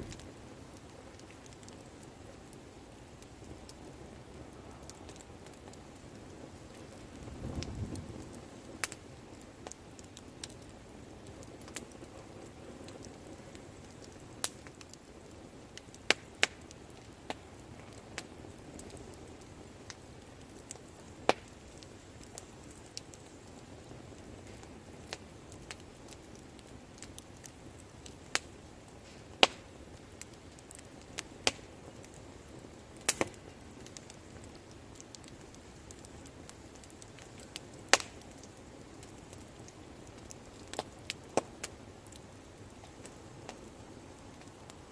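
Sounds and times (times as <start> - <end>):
burning wood crackling: 0.0 - 44.9
hiss of bonfire flames: 0.0 - 44.9.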